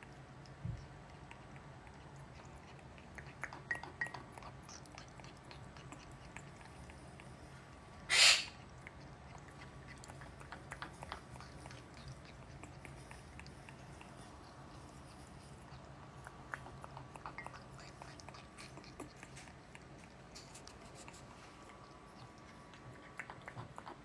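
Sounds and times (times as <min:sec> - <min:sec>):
parrot beak clicks and nibbling: 0:00.1 - 0:07.9, 0:08.5 - 0:24.0.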